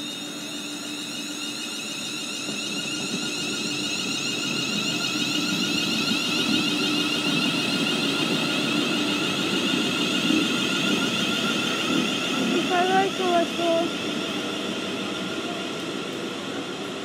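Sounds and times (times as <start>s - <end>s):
electric train whine: 0.0s - 17.0s
train wheels rumbling: 0.2s - 17.0s.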